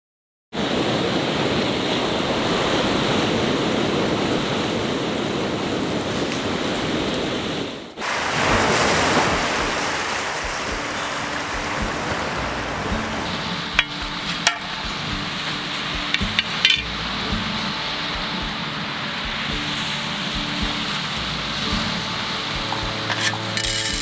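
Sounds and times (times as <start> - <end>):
sea waves on shore: 0.6 - 24.0.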